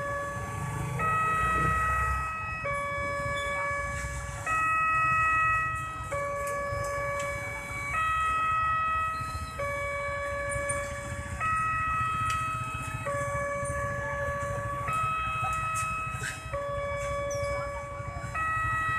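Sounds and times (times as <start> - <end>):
two-tone level crossing siren: 0.0 - 18.9.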